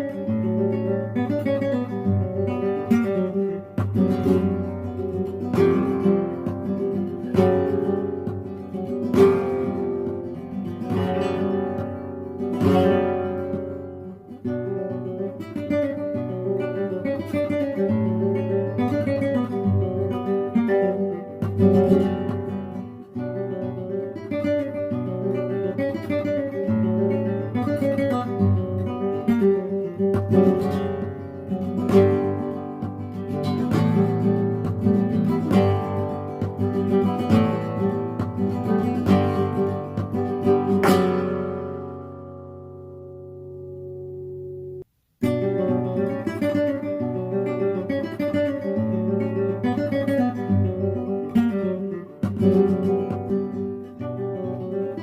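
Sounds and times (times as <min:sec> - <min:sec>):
acoustic guitar music: 0:00.0 - 0:55.0.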